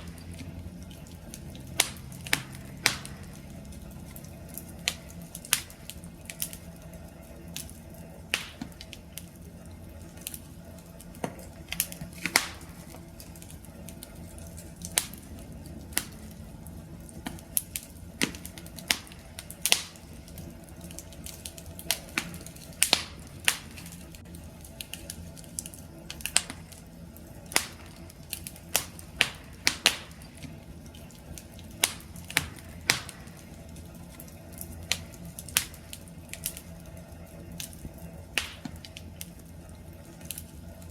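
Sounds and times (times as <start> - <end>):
campfire pops and snaps: 0.0 - 40.9
low rumble of burning fire: 0.0 - 40.9.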